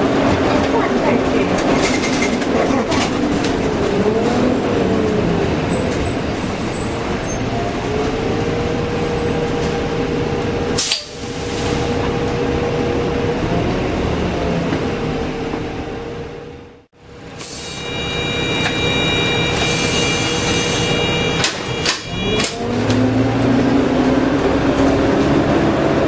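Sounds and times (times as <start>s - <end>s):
diesel engine running with whine: 0.0s - 26.0s.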